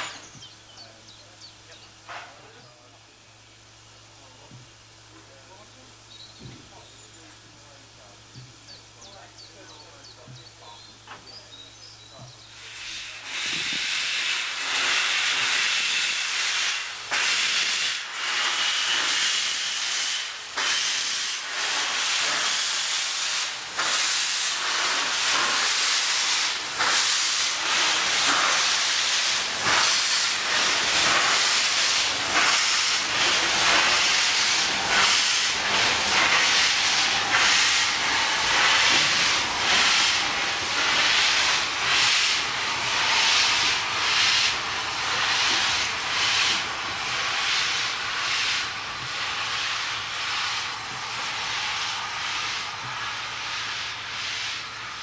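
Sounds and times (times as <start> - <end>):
locomotive exhaust beats: 0.0 - 54.4
steam hissing: 0.0 - 55.0.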